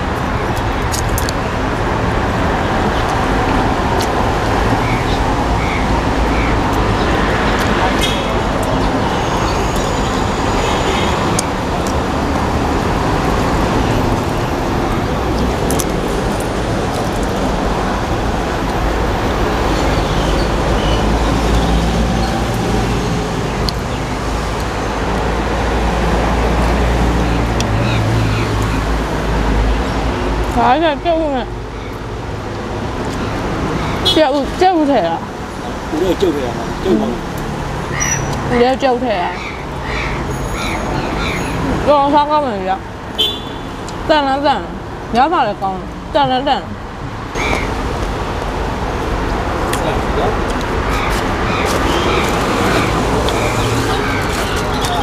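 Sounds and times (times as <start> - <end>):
cars and trucks passing: 0.0 - 55.0
road traffic: 0.0 - 55.0.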